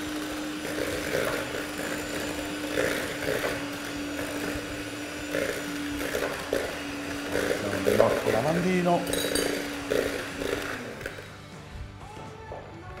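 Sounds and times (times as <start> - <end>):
electric hand mixer whipping batter: 0.0 - 12.5.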